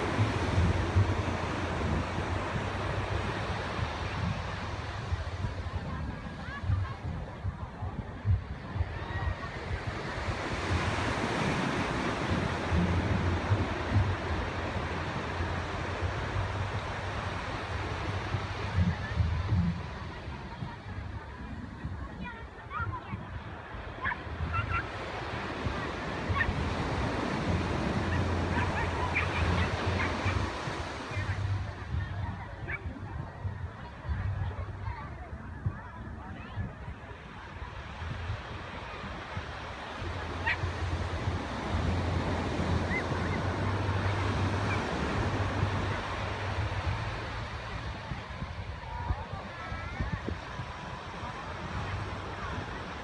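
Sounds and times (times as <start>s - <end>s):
small waves breaking on sand: 0.0s - 53.0s
surf washing onto beach: 0.0s - 53.0s
wind rumbling on microphone: 0.0s - 53.0s.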